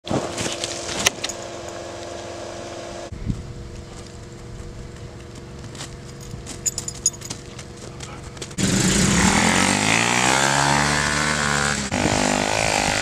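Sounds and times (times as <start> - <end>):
small engine running: 0.4 - 13.0.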